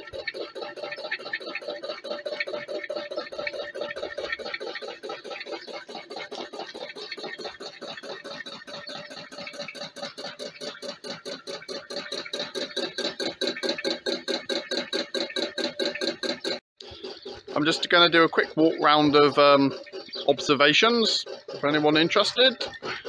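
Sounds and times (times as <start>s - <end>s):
rhythmic piston knocking: 0.0s - 23.0s
stirling engine running: 0.0s - 23.0s.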